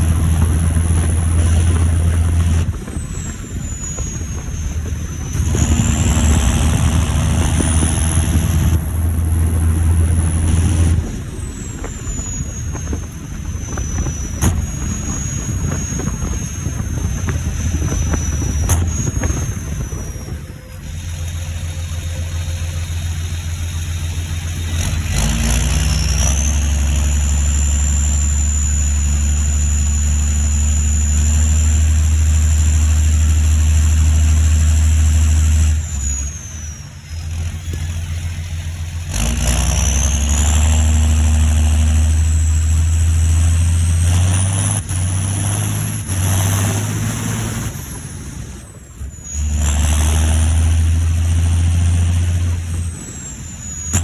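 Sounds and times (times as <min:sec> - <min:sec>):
tractor diesel engine under load: 0:00.0 - 0:54.0
turbocharger whistle: 0:00.0 - 0:54.0.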